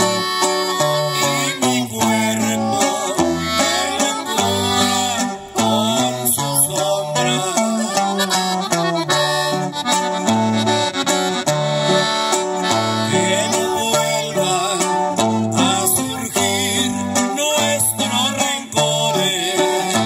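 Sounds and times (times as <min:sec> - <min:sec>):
bass notes: 0:00.0 - 0:17.2
button accordion melody: 0:00.0 - 0:20.0
strummed guitar: 0:00.0 - 0:20.0.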